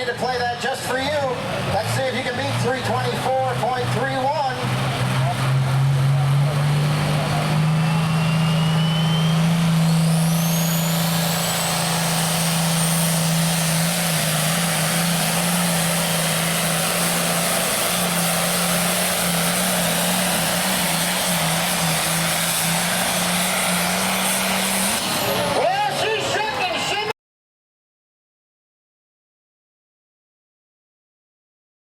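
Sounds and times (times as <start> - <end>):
high turbo whine: 0.0 - 26.7
diesel tractor engine under load: 0.0 - 27.1.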